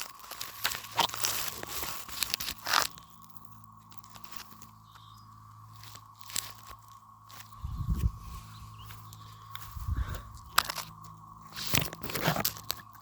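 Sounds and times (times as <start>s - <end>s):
crunching and crackling: 0.0s - 13.0s
faint steady hum: 0.0s - 13.0s.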